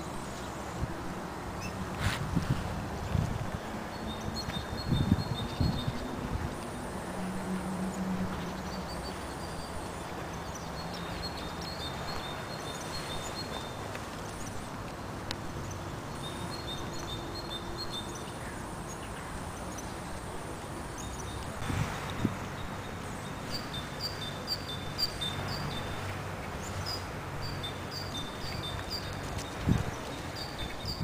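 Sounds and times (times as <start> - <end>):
steady background noise: 0.0 - 31.0
small birds chirping: 1.6 - 6.8, 8.4 - 31.0.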